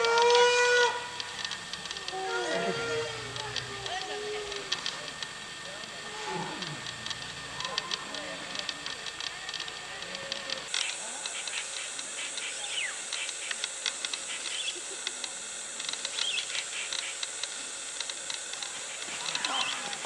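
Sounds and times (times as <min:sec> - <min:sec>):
steady high hiss: 0:00.0 - 0:20.0
scattered clicks: 0:01.2 - 0:20.0.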